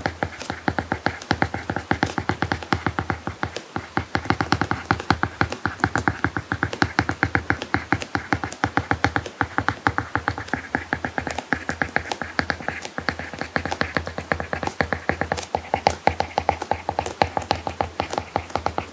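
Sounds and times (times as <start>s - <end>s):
stylus tapping and scratching screen: 0.0s - 18.9s.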